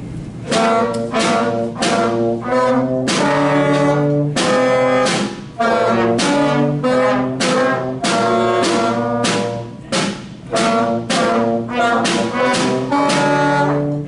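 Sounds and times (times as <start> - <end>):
school band playing: 0.3 - 14.0.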